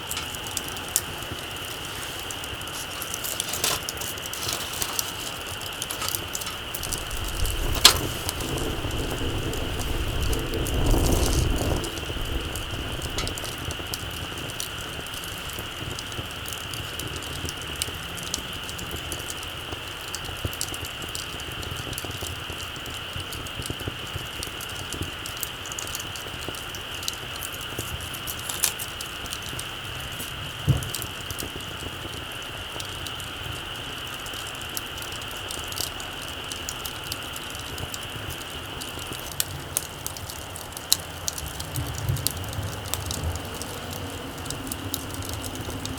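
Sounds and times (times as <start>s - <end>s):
campfire crackling and popping: 0.0s - 45.9s
fire hiss: 0.0s - 45.9s.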